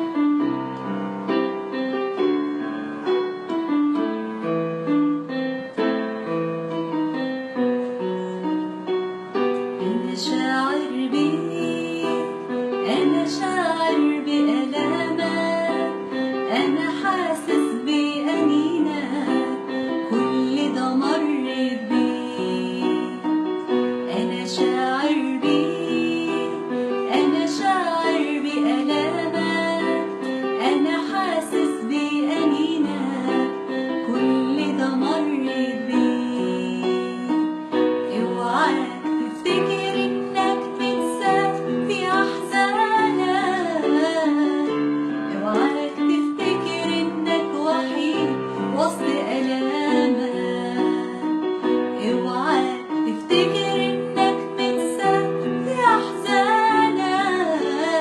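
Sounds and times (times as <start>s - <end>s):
keyboard accompaniment: 0.0s - 58.0s
person singing a hymn: 9.6s - 58.0s.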